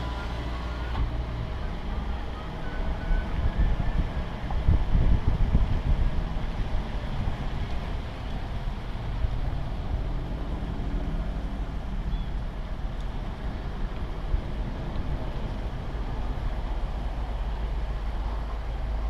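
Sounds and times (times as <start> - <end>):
car engine and tyres rumbling: 0.0 - 19.0
wind on microphone: 0.9 - 19.0.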